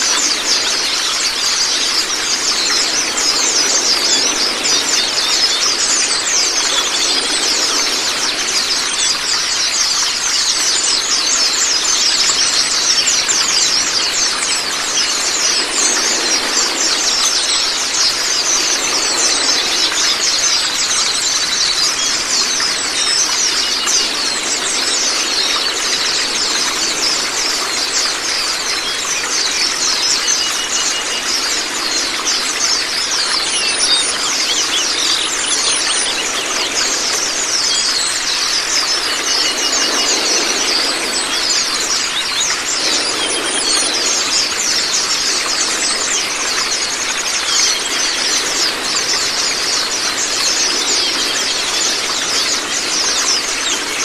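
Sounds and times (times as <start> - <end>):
birds chirping and trilling: 0.0 - 54.0
running water rushing: 0.0 - 54.0.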